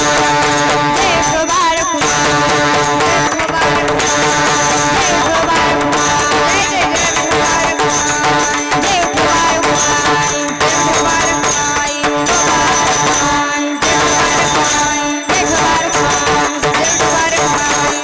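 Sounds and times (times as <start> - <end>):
drum percussion: 0.0 - 18.0.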